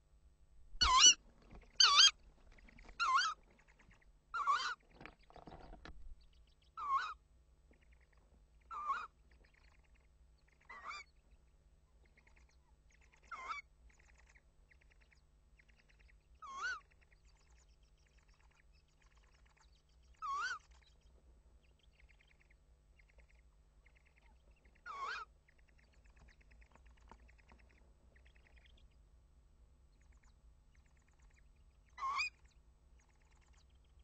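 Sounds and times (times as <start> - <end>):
owl wavering calls: 0.8 - 5.0, 6.2 - 7.2, 7.8 - 11.2, 12.0 - 21.1, 21.7 - 28.9, 30.0 - 34.0.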